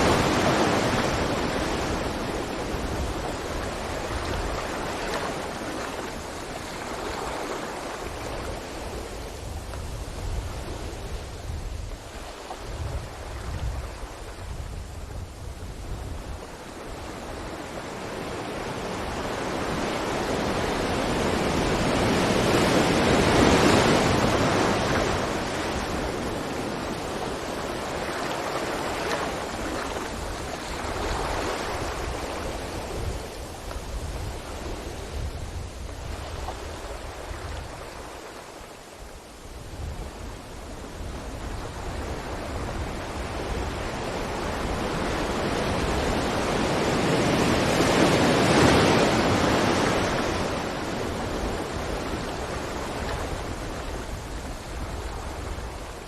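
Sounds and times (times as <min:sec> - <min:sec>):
ocean waves breaking: 0:00.0 - 0:14.9, 0:16.2 - 0:39.3, 0:40.1 - 0:56.0.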